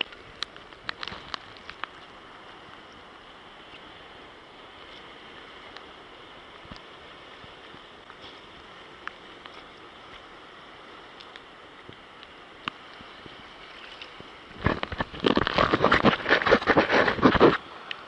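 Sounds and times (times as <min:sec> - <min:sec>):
water splashes: 0:00.0 - 0:18.0
waves lapping around kayak: 0:00.0 - 0:18.0.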